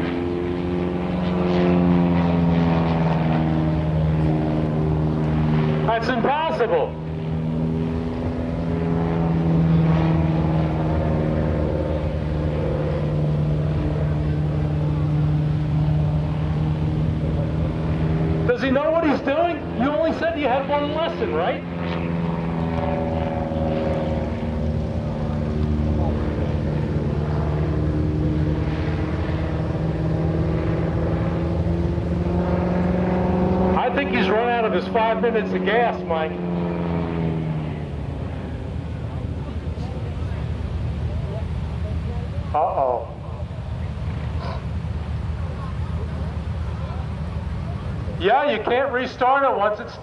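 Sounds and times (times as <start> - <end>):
light aircraft engine droning: 0.0 - 50.0
light airplane flying overhead: 0.0 - 50.0.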